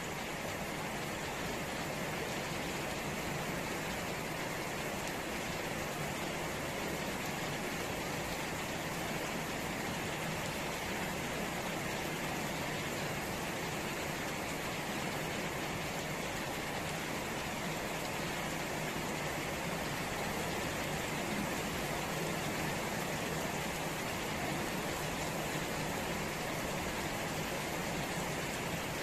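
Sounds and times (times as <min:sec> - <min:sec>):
steady rain on plants and puddles: 0:00.0 - 0:29.0.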